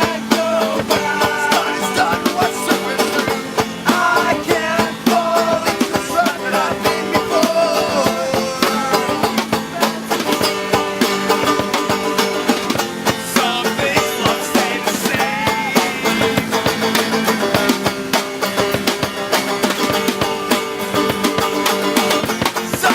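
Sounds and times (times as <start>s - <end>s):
fast acoustic strumming: 0.0s - 22.9s
plucked melody: 0.0s - 22.9s.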